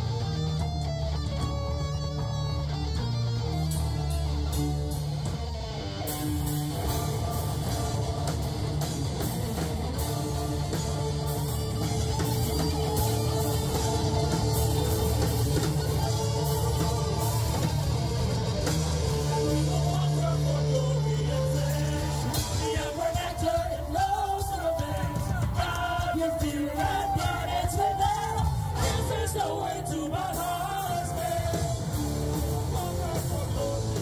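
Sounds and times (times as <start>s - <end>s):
drums and cymbals: 0.0s - 34.0s
electric guitars and bass: 0.0s - 34.0s.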